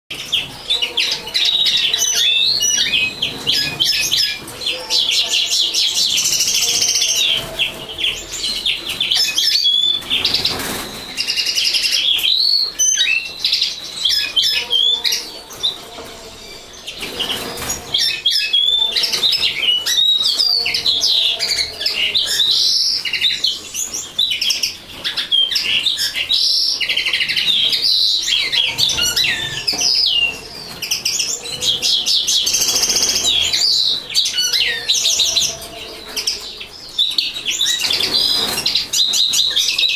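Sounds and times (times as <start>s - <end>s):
linnet twittering song: 0.1s - 39.9s.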